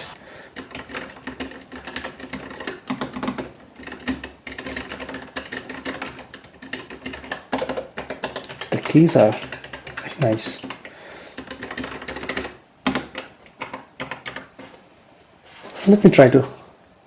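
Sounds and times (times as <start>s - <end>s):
mechanical keyboard typing: 0.0s - 10.8s, 11.4s - 14.7s.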